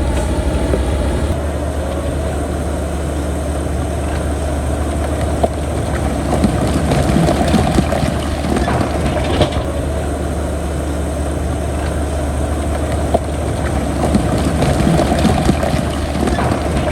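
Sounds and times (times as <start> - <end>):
heavy diesel machinery running: 0.0 - 16.9
metallic clanks and knocks: 0.0 - 16.9.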